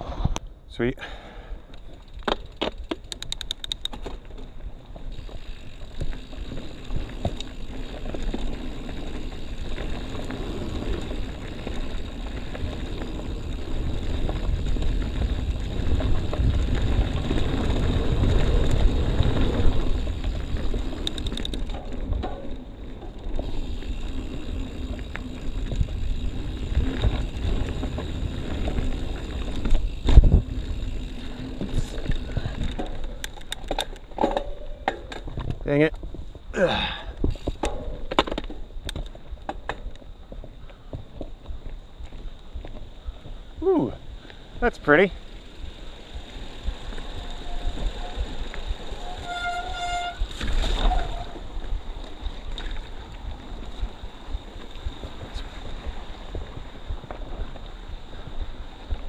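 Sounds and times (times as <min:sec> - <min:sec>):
bike rattles and clicks: 0:01.0 - 0:59.0
bike tyres rumbling on dirt: 0:03.9 - 0:59.0.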